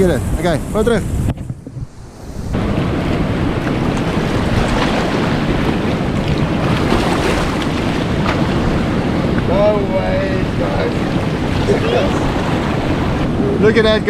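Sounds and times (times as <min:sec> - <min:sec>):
wind buffeting microphone: 0:00.0 - 0:14.0
breaking surf: 0:01.9 - 0:14.0.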